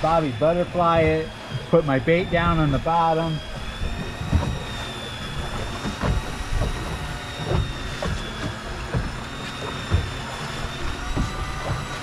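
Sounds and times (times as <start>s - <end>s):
electric fishing reel whining: 0.0s - 12.0s
water slapping against hull: 0.0s - 12.0s.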